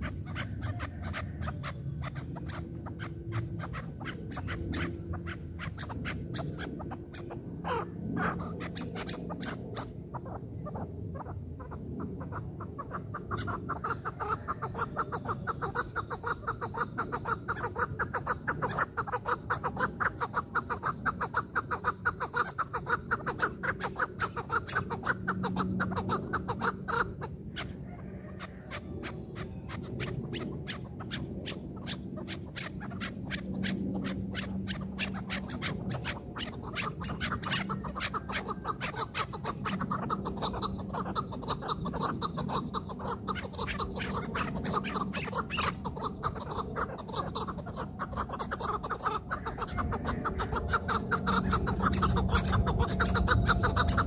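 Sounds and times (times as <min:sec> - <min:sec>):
partridges chuck calls: 0:00.0 - 0:54.0.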